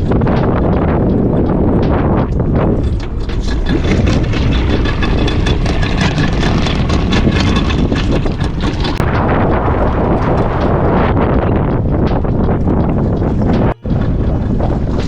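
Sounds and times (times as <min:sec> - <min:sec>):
boat engine running: 0:00.0 - 0:15.0
rapid clicking: 0:00.0 - 0:15.0.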